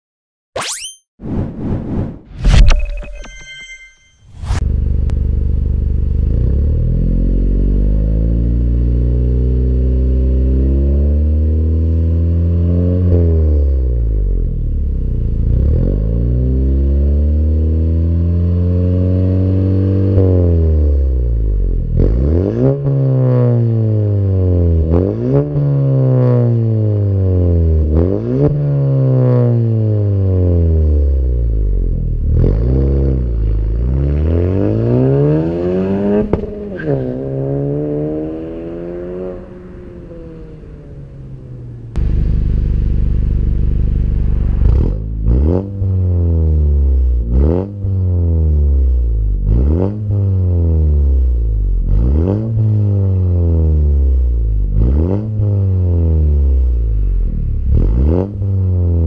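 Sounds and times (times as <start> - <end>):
car engine idling and revving: 4.6 - 59.0.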